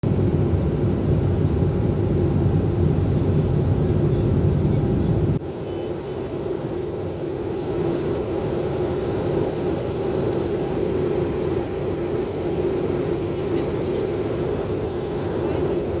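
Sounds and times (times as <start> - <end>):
airplane engine rumble: 0.0 - 16.0
constant hum: 0.0 - 16.0.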